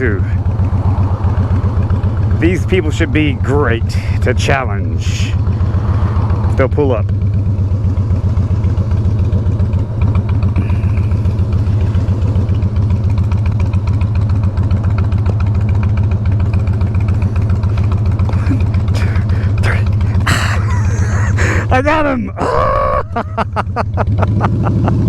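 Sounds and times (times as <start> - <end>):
motorcycle engine idling: 0.0 - 24.7.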